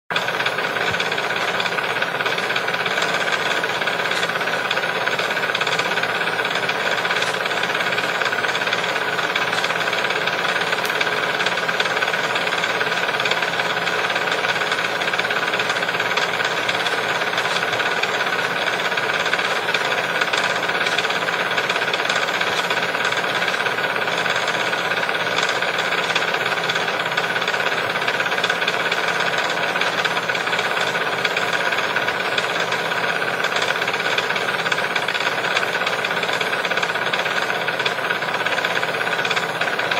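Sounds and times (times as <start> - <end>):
tower fan blowing: 0.1 - 39.9.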